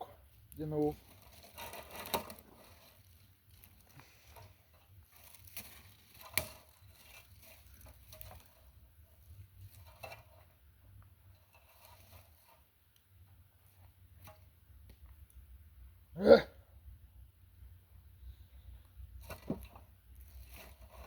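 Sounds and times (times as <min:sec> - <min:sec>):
dry twigs rustling and crackling: 0:00.2 - 0:15.6, 0:18.2 - 0:21.0.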